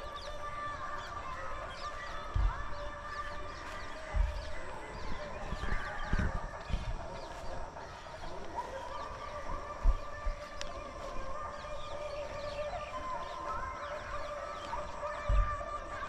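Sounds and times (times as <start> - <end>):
birds calling steadily: 0.0 - 16.0
birds chirping: 0.0 - 16.0.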